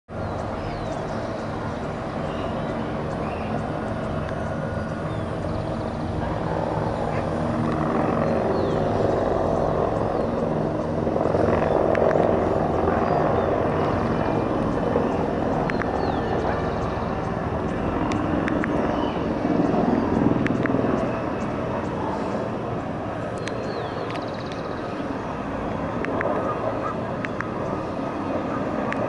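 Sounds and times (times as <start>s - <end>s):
helicopters flying past: 0.1s - 29.0s.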